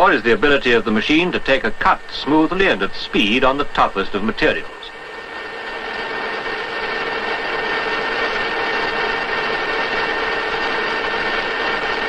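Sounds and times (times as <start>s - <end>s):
lathe cutting metal: 0.0s - 12.0s.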